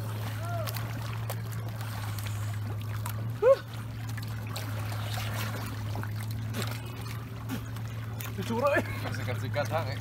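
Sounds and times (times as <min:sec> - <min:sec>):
steady low hum: 0:00.0 - 0:10.0
water trickling and splashing: 0:00.0 - 0:10.0.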